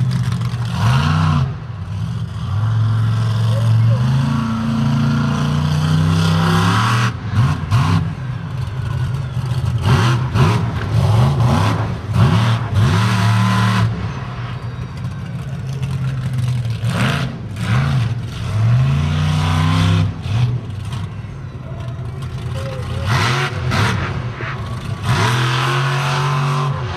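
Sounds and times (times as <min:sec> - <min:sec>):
truck engine revving: 0:00.0 - 0:26.9.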